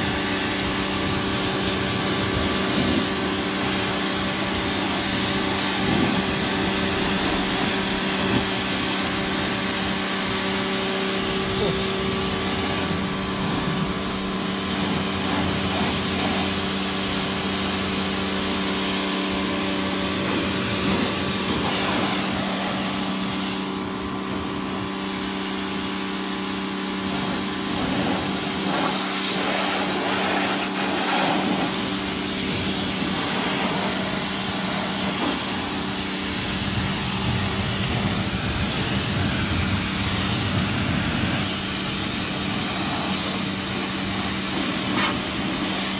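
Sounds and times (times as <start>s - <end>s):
pressure washer humming: 0.0s - 45.9s
water jet hissing: 0.1s - 45.9s.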